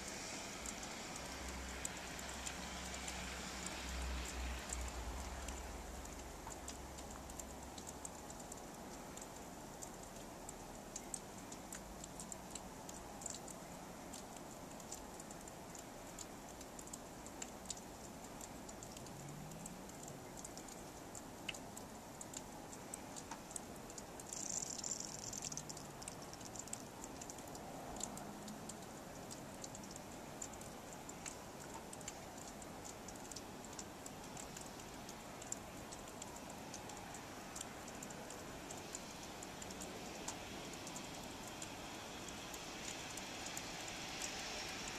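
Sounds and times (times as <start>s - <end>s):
low steady hiss: 0.0s - 44.9s
snow ticking on surfaces: 0.0s - 44.9s.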